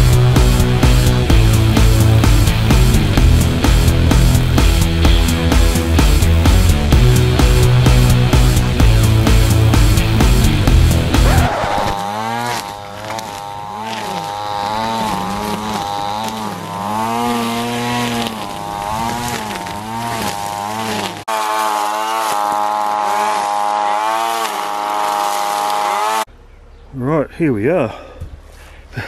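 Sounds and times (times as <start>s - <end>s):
string trimmer engine revving: 0.0s - 26.3s.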